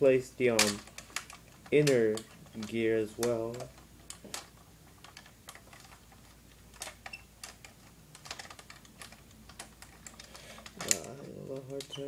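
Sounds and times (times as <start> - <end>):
plastic toy parts clicking: 0.5 - 12.0.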